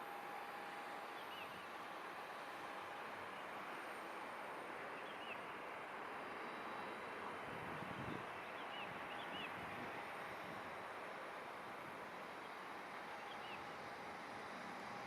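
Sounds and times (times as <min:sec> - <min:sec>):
faint outdoor rush: 0:00.0 - 0:15.0.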